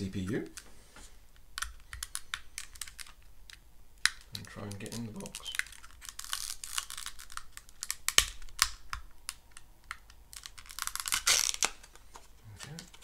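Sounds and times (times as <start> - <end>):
plastic packaging clicks and crackles: 1.4 - 13.0.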